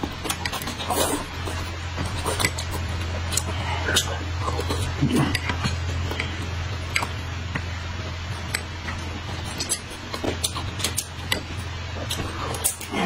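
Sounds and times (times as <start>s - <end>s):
people chewing: 0.0s - 13.0s
steady low hum: 0.0s - 13.0s.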